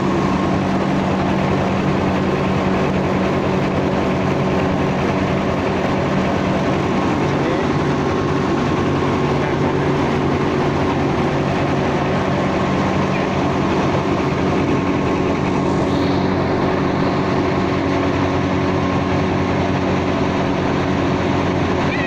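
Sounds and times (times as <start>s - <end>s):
rice mill machine drone: 0.0s - 22.0s.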